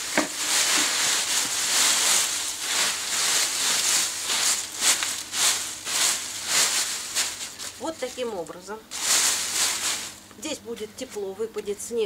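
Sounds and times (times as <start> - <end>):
dry leaves rustling: 0.0 - 10.6.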